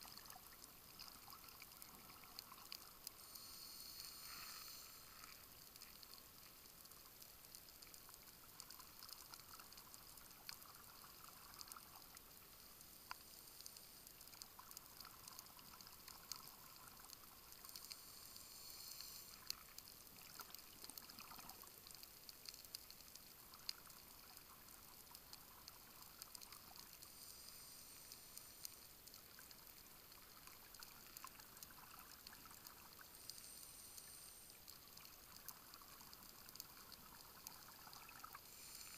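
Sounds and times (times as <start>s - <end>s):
steady underwater hiss: 0.0s - 38.9s.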